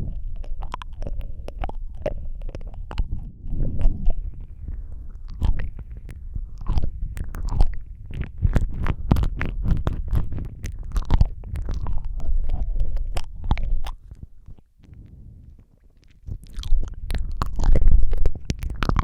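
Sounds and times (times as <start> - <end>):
lip smacks: 0.0 - 19.0
tongue clicks: 0.0 - 19.0.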